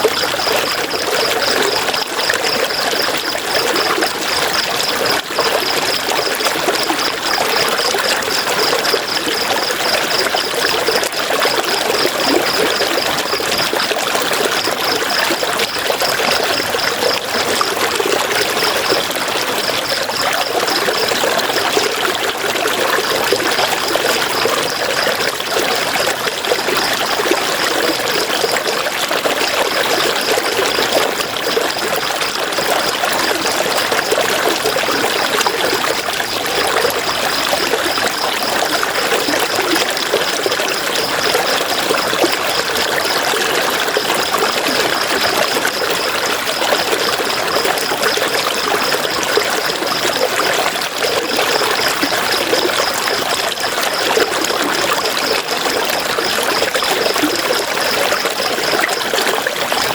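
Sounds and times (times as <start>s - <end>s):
river water babbling over stones: 0.0s - 59.9s.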